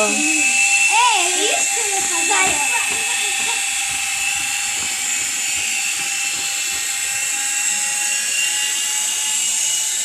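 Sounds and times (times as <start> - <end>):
toy helicopter motor whine: 0.0 - 10.0.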